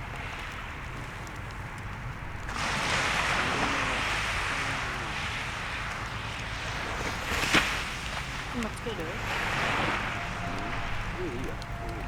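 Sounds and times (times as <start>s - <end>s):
wind: 0.0s - 12.0s
surf on the shore: 2.3s - 12.0s.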